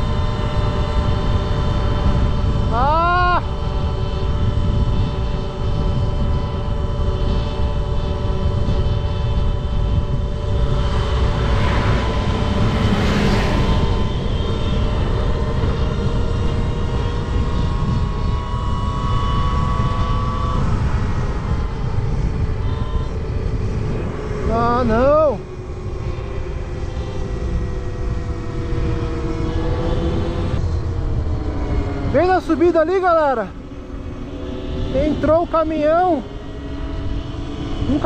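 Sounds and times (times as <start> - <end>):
electric motor whining: 0.0 - 38.0
wind rumble on microphone: 0.0 - 38.0.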